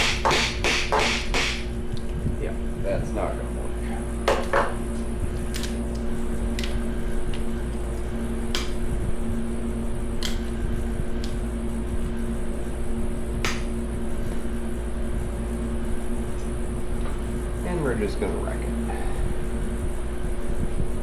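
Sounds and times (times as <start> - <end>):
shop hum and rumble: 0.0 - 21.0.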